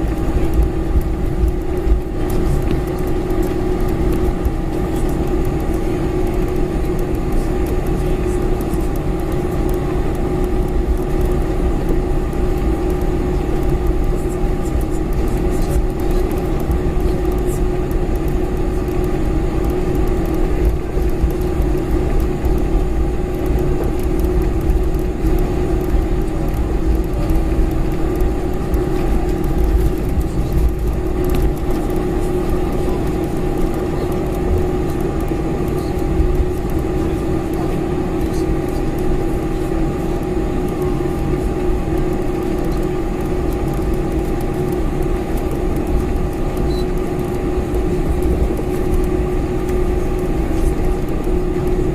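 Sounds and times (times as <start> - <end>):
jet engines droning: 0.0 - 51.9.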